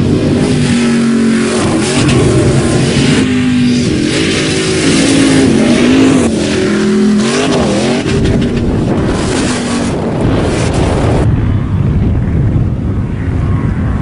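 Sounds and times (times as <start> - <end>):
truck engine revving: 0.0 - 11.4
deep engine rumble: 0.0 - 14.0
steady rushing noise: 0.0 - 14.0.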